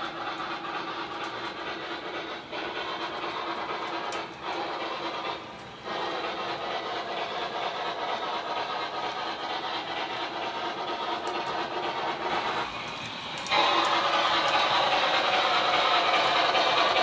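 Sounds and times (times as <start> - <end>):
model train wheels rumbling on rails: 0.0 - 17.0.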